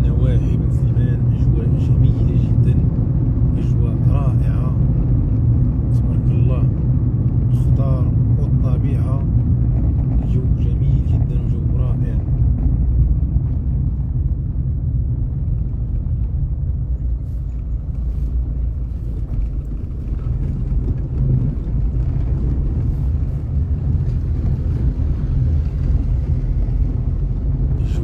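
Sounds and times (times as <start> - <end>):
car driving on road rumble: 0.0 - 28.0.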